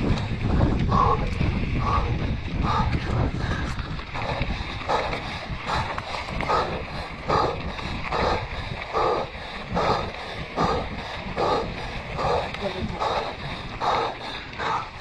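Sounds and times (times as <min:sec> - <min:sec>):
rider breathing hard: 0:00.0 - 0:15.0
wind rumble: 0:00.0 - 0:15.0.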